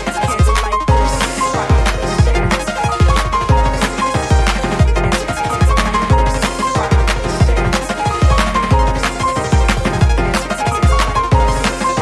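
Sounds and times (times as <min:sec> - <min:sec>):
drum beat with kick and snare: 0:00.0 - 0:12.0.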